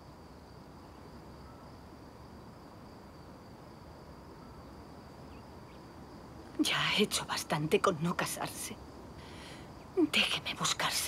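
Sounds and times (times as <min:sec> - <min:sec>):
crickets chirring: 0:00.0 - 0:11.0
low background hiss: 0:00.0 - 0:11.0.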